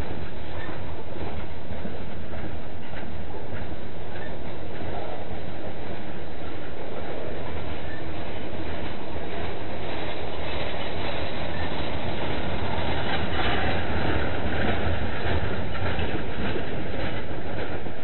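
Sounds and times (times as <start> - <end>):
freight train rumbling past: 0.0 - 18.0
wheels clacking over rail joints: 0.0 - 18.0.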